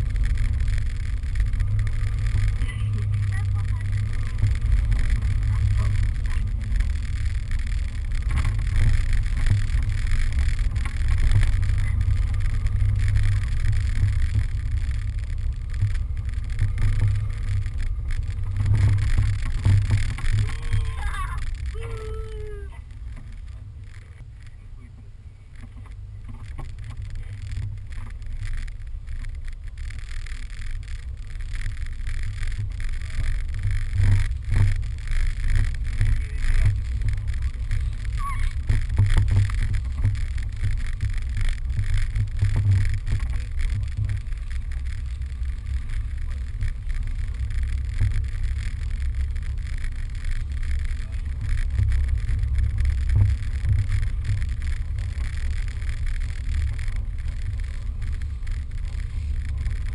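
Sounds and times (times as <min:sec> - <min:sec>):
sled sliding on snow: 0:00.0 - 0:59.9.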